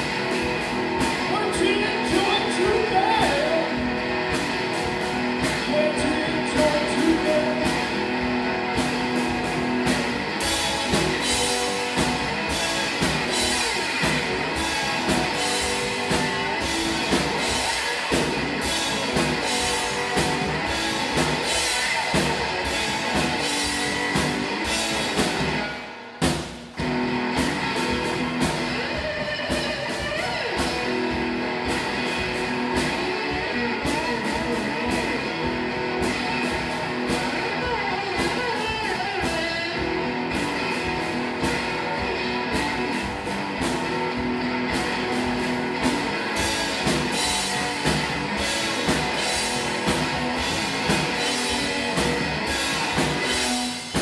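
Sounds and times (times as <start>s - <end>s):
drum kit playing: 0.0s - 54.0s
electric guitar riff: 0.0s - 54.0s.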